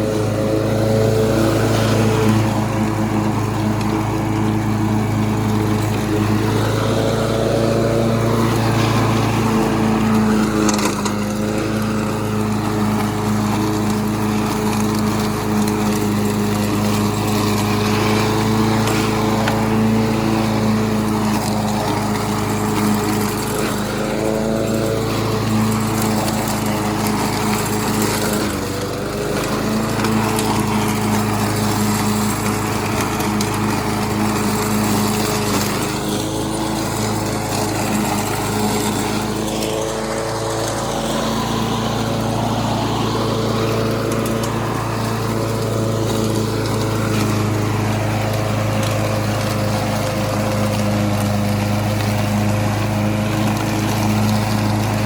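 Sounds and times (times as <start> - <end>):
lawn mower engine cutting grass: 0.0 - 55.0.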